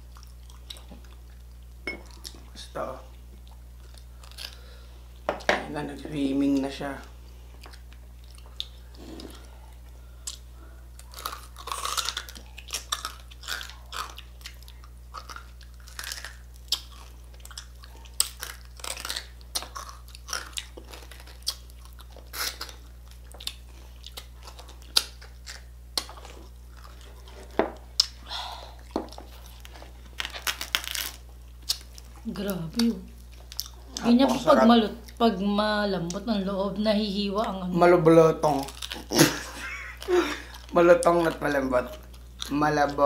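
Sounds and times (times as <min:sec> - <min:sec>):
chewing and crunching: 0:00.0 - 0:05.3, 0:06.4 - 0:35.2, 0:38.4 - 0:43.0
steady low hum: 0:00.0 - 0:43.0.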